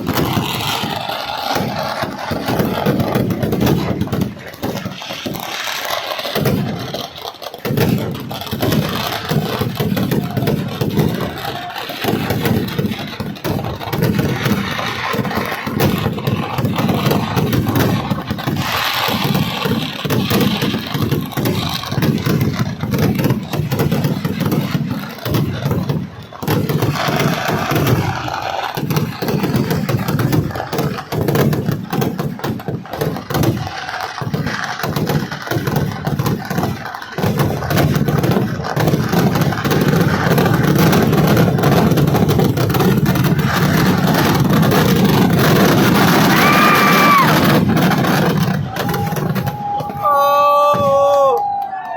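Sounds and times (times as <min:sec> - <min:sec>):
firecrackers exploding: 0:00.0 - 0:51.9.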